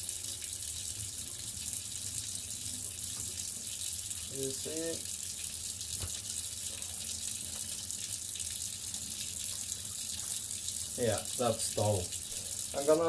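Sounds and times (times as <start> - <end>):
running water hiss: 0.9 - 13.0.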